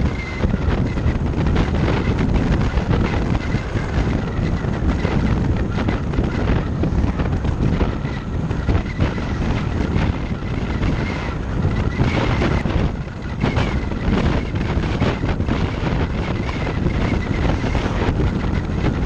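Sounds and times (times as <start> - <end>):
road rumble: 0.0 - 19.0
wind buffeting: 0.0 - 19.0.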